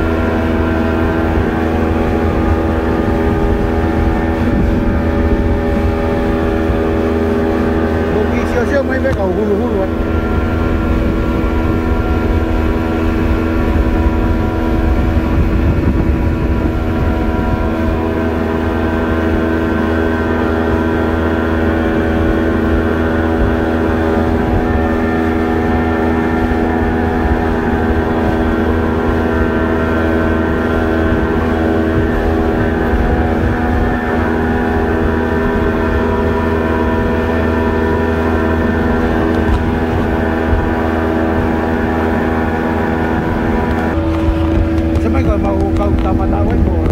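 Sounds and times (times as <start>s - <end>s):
boat wake rushing: 0.0s - 46.9s
outboard motor running: 0.0s - 46.9s.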